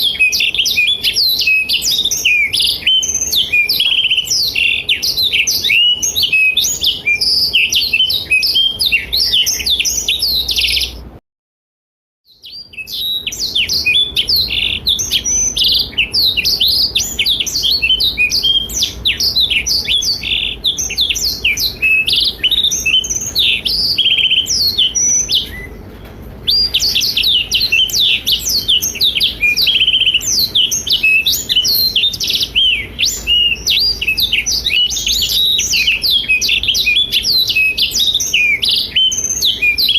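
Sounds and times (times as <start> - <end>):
bird twittering trills: 0.0 - 11.1, 12.3 - 39.9.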